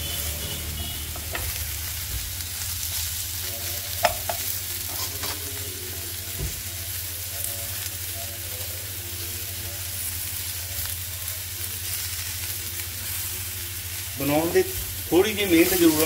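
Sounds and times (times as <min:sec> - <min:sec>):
vegetables frying with sizzle: 0:00.0 - 0:16.0.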